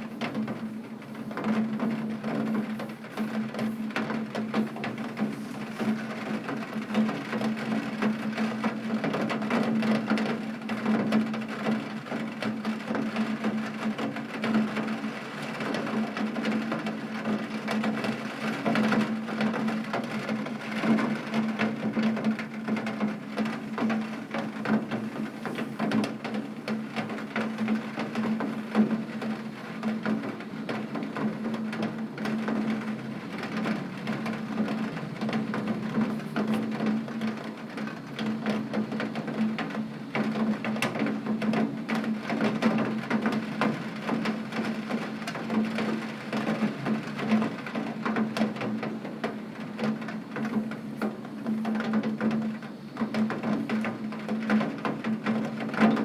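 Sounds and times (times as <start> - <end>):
rain tapping on window glass: 0.0 - 56.0.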